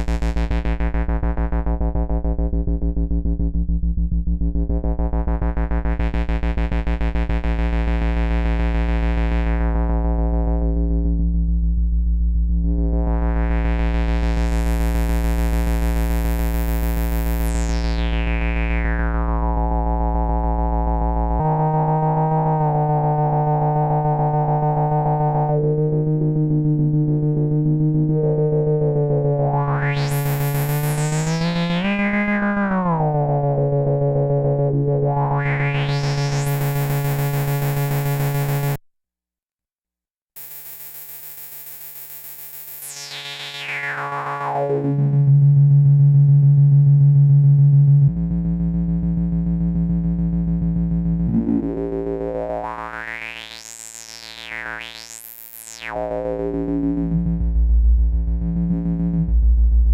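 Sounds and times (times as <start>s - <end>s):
buzzy synthesizer drone: 0.0s - 38.8s, 40.4s - 59.9s.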